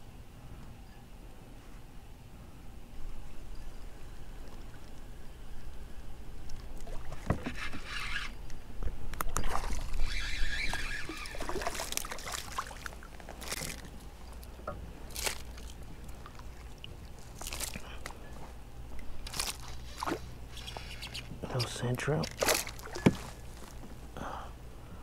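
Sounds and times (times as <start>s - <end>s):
water splashing and sloshing: 3.0s - 24.2s.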